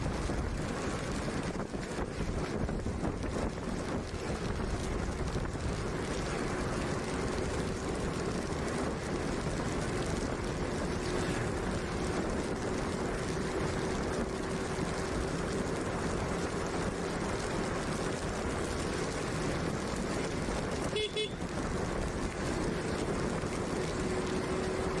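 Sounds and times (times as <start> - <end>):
motorbike engine hum: 0.0 - 25.0
tyres on wet road: 0.0 - 25.0
wind noise: 0.0 - 25.0.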